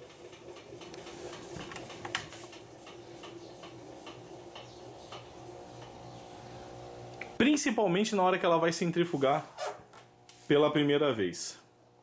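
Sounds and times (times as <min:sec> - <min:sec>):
washing machine spin cycle hum: 0:00.0 - 0:12.0.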